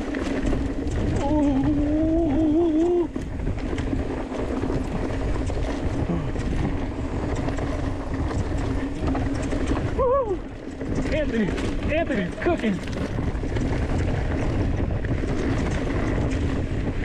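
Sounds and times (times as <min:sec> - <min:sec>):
bike rattling: 0:00.0 - 0:17.0
tyres rolling over loose dirt: 0:00.0 - 0:17.0
wind buffeting microphone: 0:00.0 - 0:17.0.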